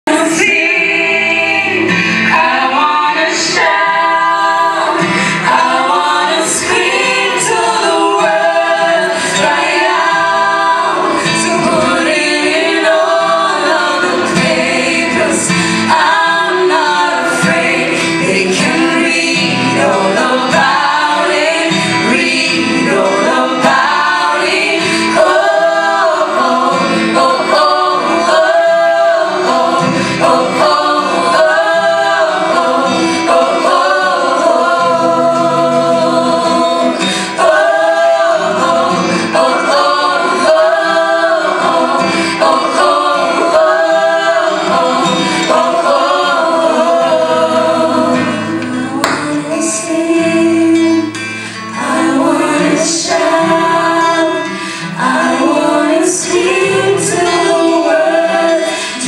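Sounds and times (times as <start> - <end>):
gospel group singing in harmony: 0.0 - 59.0.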